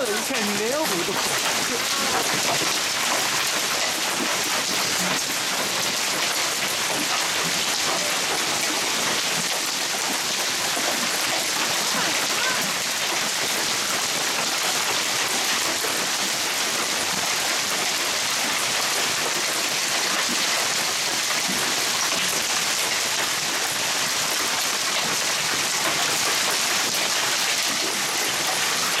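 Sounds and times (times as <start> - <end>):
hail and rain falling hard: 0.0 - 29.0.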